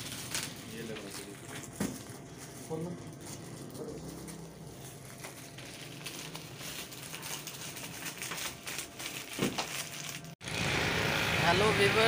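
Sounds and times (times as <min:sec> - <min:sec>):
crinkling and rustling: 0:00.0 - 0:10.4.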